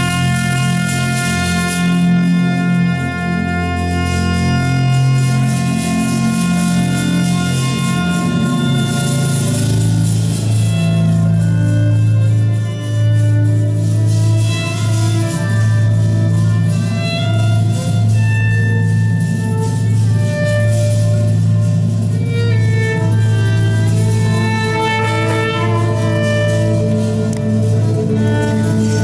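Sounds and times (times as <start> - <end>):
steady low note: 0.0 - 29.0
trumpet: 0.0 - 29.0
violins playing melody: 0.0 - 29.0.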